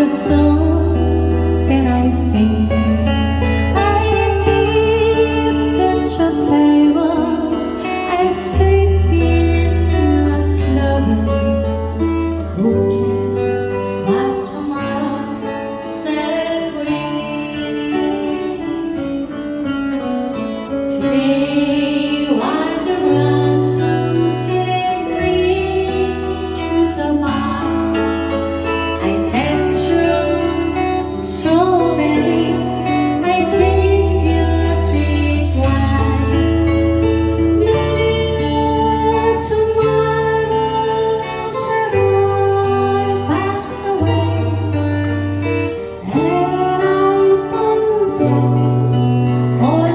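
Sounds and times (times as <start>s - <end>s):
guitar accompaniment: 0.0s - 49.9s
person singing: 0.0s - 49.9s.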